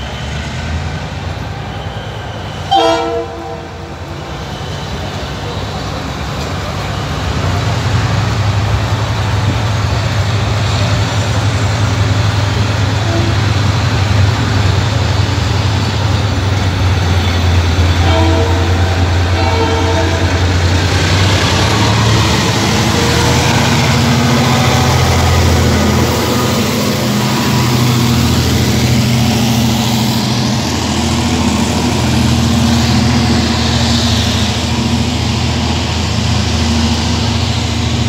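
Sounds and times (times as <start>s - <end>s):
diesel locomotive engine humming: 0.0s - 38.0s
train rumbling and rattling on rails: 0.0s - 38.0s.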